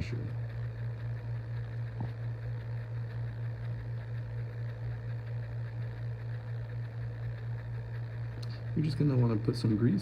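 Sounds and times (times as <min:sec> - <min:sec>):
low pulsing machine hum: 0:00.0 - 0:10.0.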